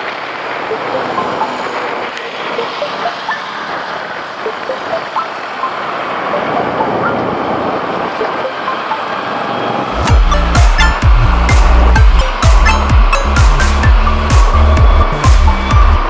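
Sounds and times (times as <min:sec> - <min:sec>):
road traffic noise: 0:00.0 - 0:16.0
tanker truck: 0:00.0 - 0:16.0.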